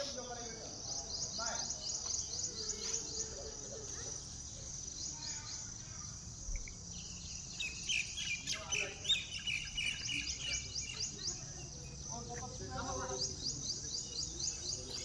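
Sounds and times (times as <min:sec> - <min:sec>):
birds chirping: 0:00.0 - 0:15.0
high insect drone: 0:00.0 - 0:15.0.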